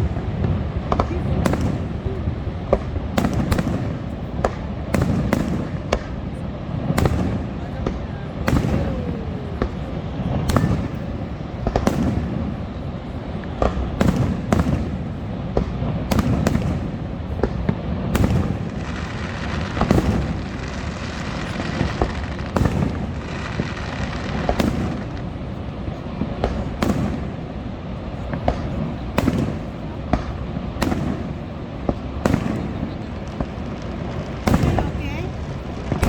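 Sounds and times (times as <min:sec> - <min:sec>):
fireworks bangs and pops: 0:00.0 - 0:36.0.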